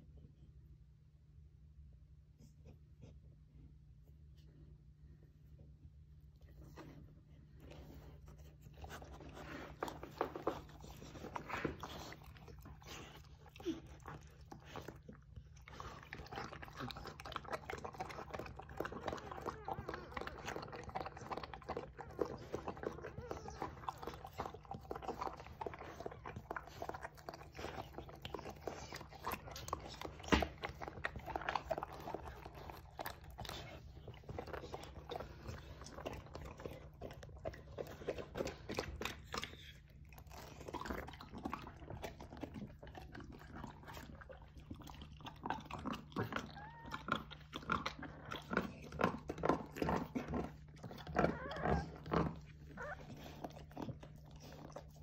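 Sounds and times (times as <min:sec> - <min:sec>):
dog licking and chewing puppy: 0:06.3 - 0:55.0.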